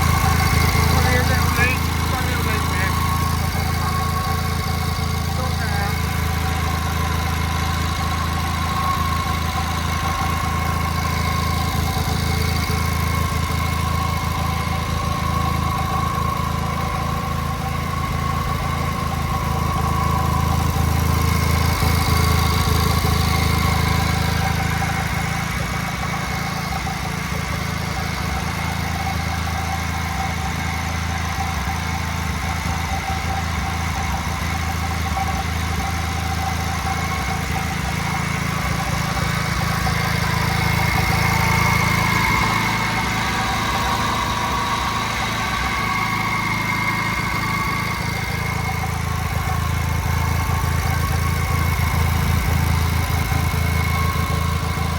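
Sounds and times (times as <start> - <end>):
single-cylinder engine running: 0.0 - 54.9.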